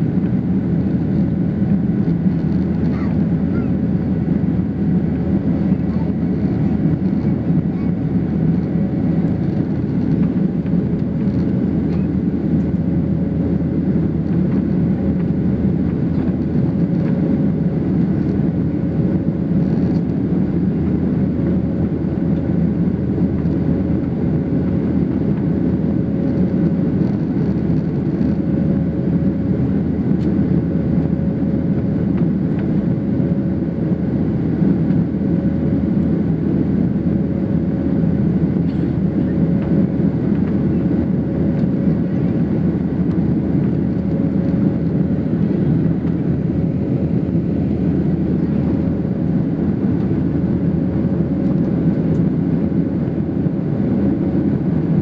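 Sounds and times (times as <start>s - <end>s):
jet engines and rushing air: 0.0s - 55.0s.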